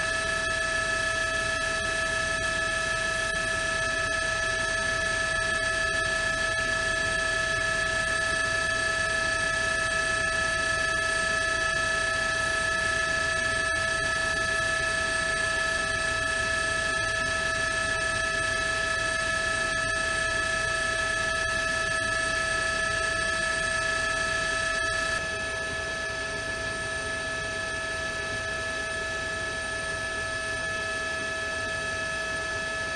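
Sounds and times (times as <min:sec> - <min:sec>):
helicopter turbine whine: 0:00.0 - 0:32.9.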